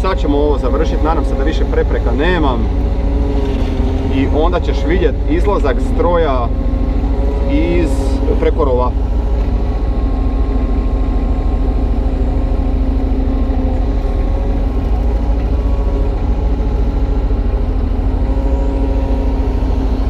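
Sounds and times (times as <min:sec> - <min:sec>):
diesel engine running: 0:00.0 - 0:20.0
hydraulic pump whine: 0:00.0 - 0:20.0.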